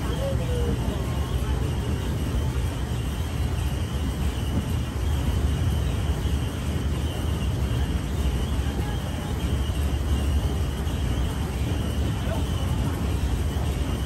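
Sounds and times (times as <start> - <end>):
rail cart rumbling on rails: 0.0 - 14.0.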